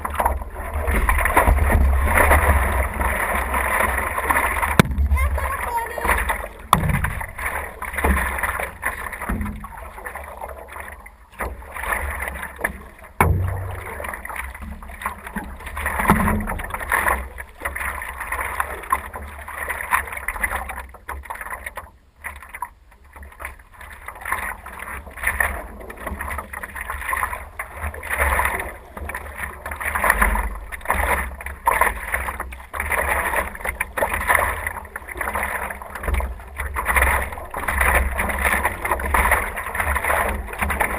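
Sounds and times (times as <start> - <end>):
paddle splashing through water: 0.0 - 40.9.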